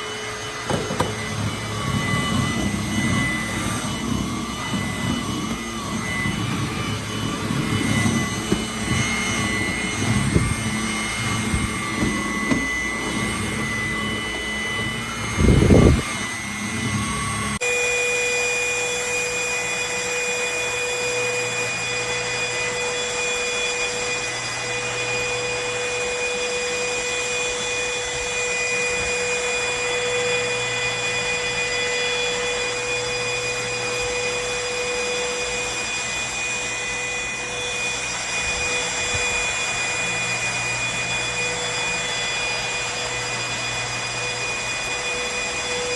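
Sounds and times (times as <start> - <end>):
stick vacuum motor whine: 0.0 - 45.9.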